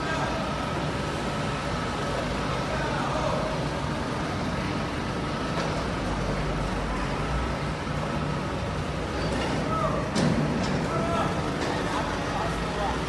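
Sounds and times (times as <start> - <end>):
industrial machine rumble: 0.0 - 13.0.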